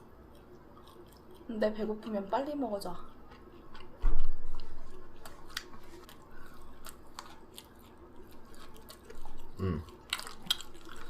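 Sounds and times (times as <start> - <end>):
person chewing: 0.1 - 2.2, 3.0 - 11.0.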